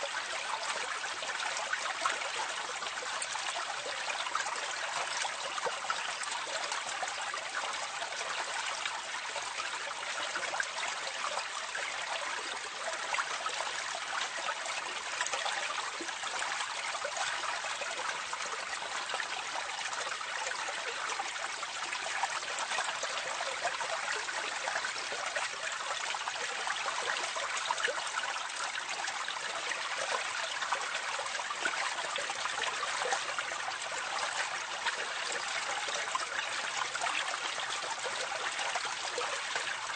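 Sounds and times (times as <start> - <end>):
water trickling into a drain: 0.0 - 39.9.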